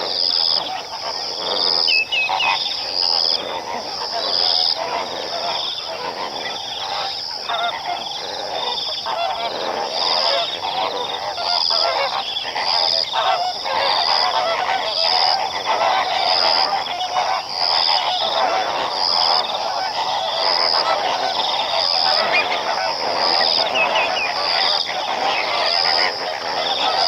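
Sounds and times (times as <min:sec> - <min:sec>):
flamingos calling: 0:00.0 - 0:27.0.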